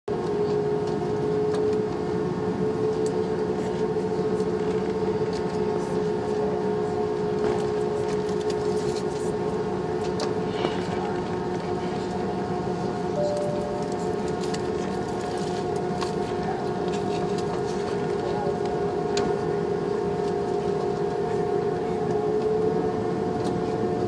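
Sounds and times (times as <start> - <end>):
jet engine cabin hum: 0.1 - 24.0.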